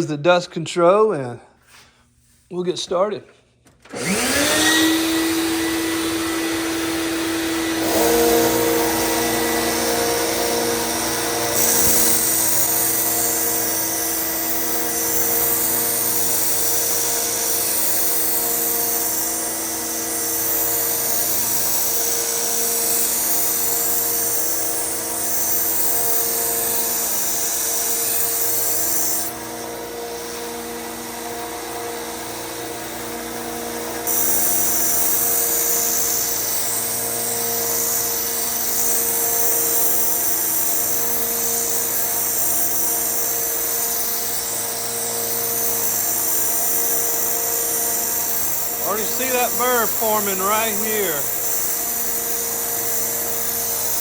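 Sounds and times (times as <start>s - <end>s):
belt sander motor: 3.8s - 54.0s
dust collector running: 3.8s - 54.0s
knife grinding on sander belt: 4.0s - 54.0s.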